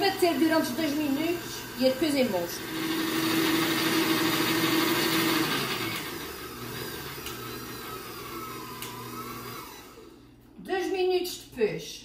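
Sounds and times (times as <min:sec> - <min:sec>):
stand mixer motor hum: 0:00.0 - 0:10.2.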